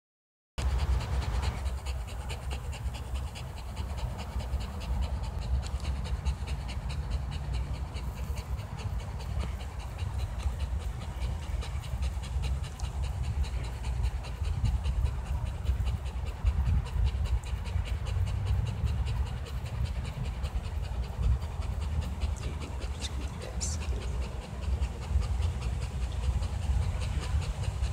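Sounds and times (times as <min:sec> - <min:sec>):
dog panting: 0:00.6 - 0:27.9.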